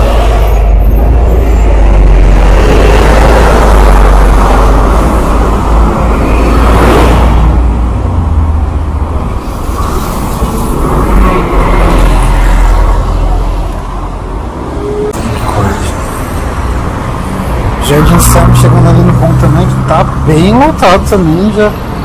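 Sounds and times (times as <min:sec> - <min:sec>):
bus engine rumble: 0:00.0 - 0:22.0
street traffic: 0:00.0 - 0:22.0
tyre and road noise: 0:00.0 - 0:22.0.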